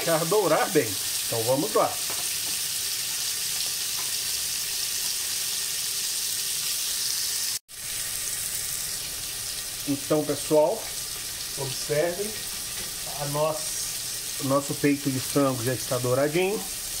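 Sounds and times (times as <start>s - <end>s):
chicken sizzling in a pot: 0.0s - 17.0s.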